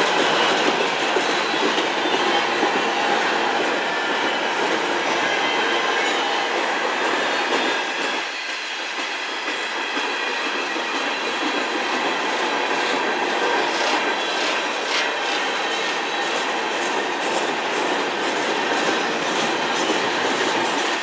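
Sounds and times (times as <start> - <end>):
steel wheels rolling on rails: 0.0 - 21.0.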